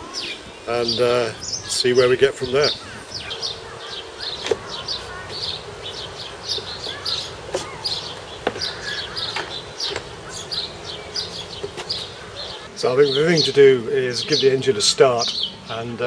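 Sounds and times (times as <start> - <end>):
small bird chirping: 0.0 - 15.8.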